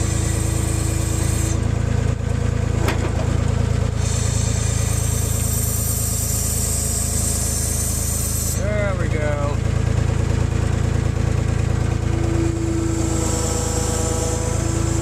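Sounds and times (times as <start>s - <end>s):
skid loader engine running: 0.0s - 15.0s.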